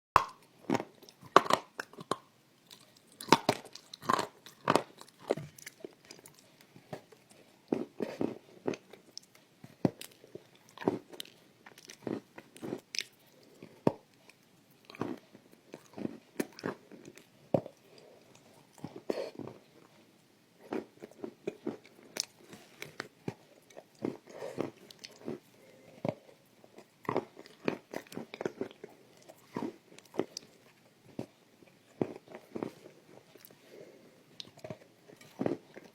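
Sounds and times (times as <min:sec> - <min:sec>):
chewing crunchy food: 0:00.2 - 0:35.9.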